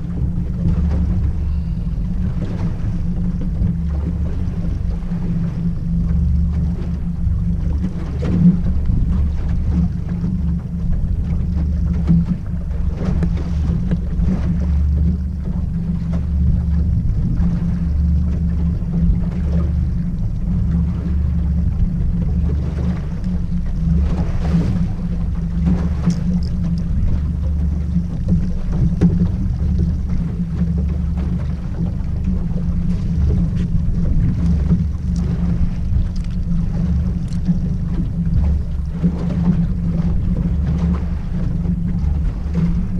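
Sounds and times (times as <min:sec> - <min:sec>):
outboard motor droning: 0:00.0 - 0:42.9.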